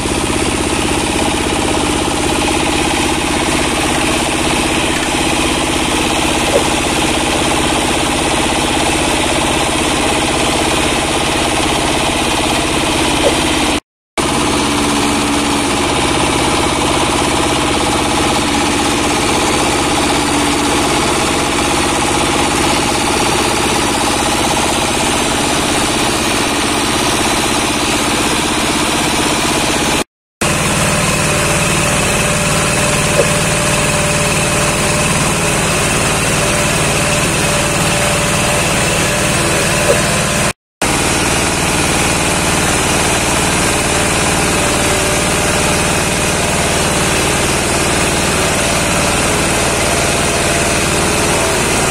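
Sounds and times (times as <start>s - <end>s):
diesel engine running: 0.0s - 51.9s
wood crusher grinding branches: 0.0s - 51.9s.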